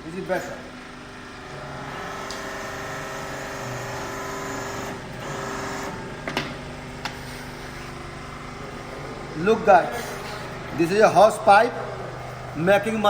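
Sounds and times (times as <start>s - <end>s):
machine motor and pump hum: 0.0s - 13.0s.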